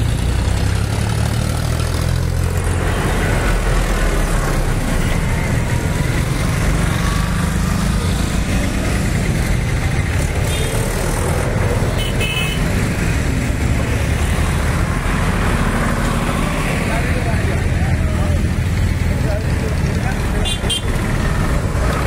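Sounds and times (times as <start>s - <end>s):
vehicle engines in road traffic: 0.0s - 22.0s.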